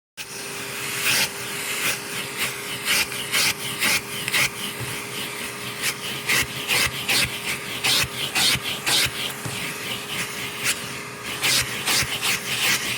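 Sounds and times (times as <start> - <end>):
vacuum cleaner on carpet: 0.2 - 12.9.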